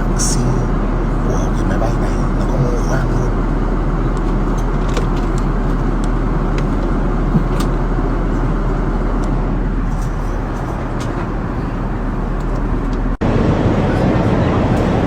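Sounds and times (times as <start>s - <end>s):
airliner cabin engine drone: 0.0s - 15.0s.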